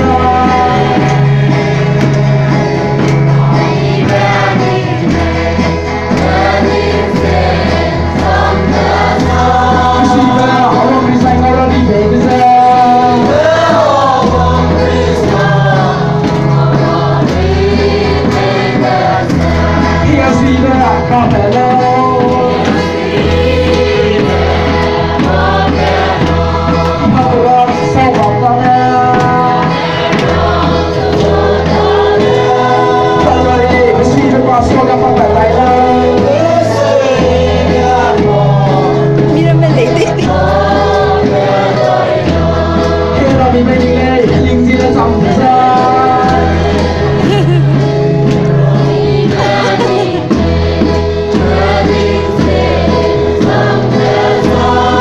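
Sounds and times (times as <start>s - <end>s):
group singing a hymn: 0.0s - 55.0s
instrumental accompaniment: 0.0s - 55.0s.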